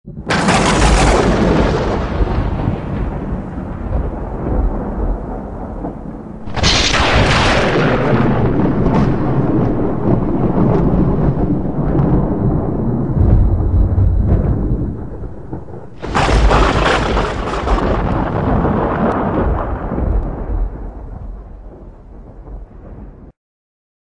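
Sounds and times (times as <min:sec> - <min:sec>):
sharp thunder crack: 0:00.1 - 0:23.3
thunder rumbling: 0:00.1 - 0:23.3.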